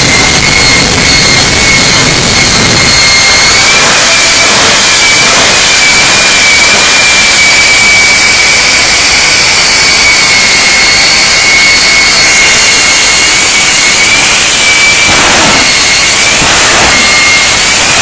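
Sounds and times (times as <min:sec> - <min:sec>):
jet engine roaring with whine: 0:00.0 - 0:18.0.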